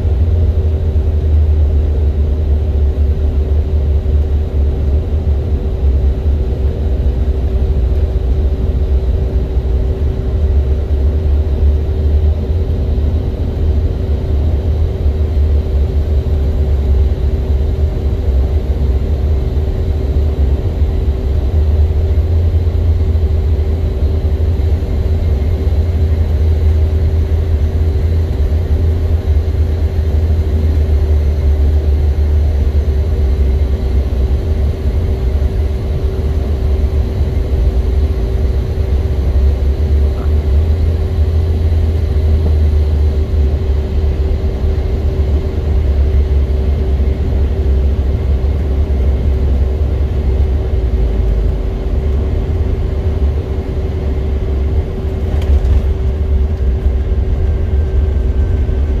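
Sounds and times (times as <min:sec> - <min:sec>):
jet engine and airflow rumble: 0:00.0 - 0:59.0
steady cabin hum: 0:00.0 - 0:59.0.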